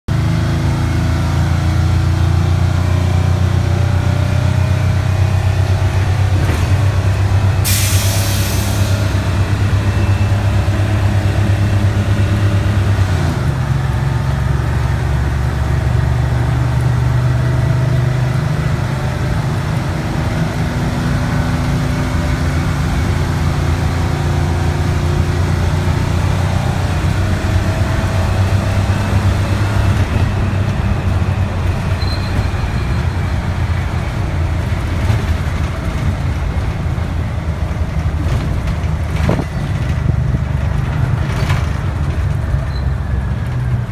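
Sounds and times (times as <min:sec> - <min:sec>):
bus diesel engine running: 0:00.1 - 0:43.9.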